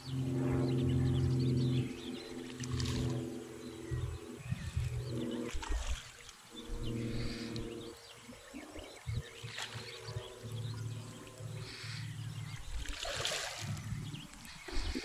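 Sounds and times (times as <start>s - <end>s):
low droning hum: 0.0s - 15.0s
small birds chirping: 0.0s - 15.0s.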